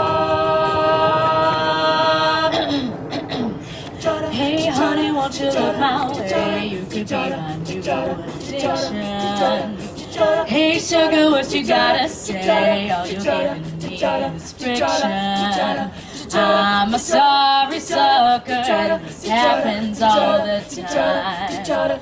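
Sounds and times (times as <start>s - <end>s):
female group singing in harmony: 0.0s - 2.6s, 3.9s - 22.0s.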